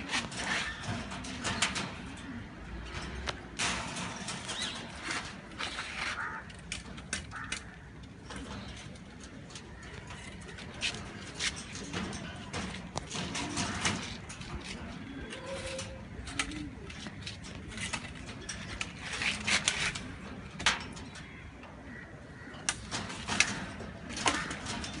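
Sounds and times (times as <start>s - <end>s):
pigeons cooing: 0.0s - 25.0s
rustles and clicks: 0.0s - 25.0s.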